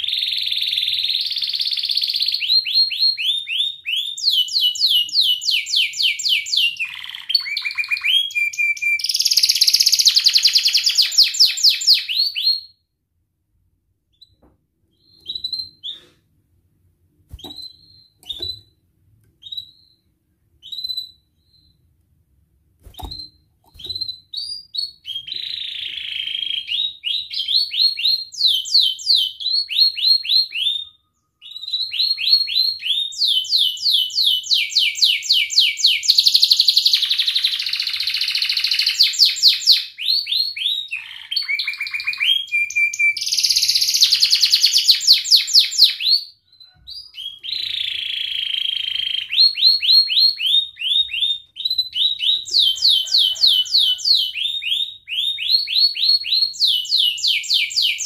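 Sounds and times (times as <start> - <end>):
canary singing trills: 0.0 - 12.7, 17.3 - 18.8, 22.9 - 58.0.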